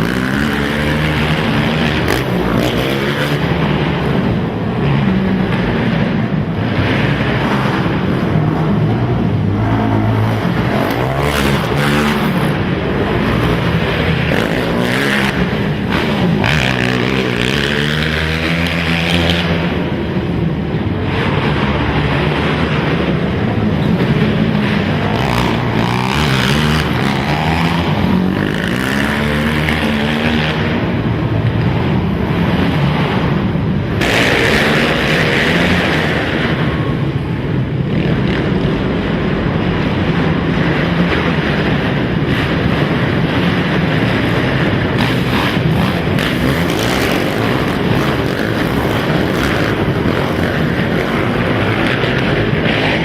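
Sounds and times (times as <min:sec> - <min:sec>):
quad engines revving: 0:00.0 - 0:53.0.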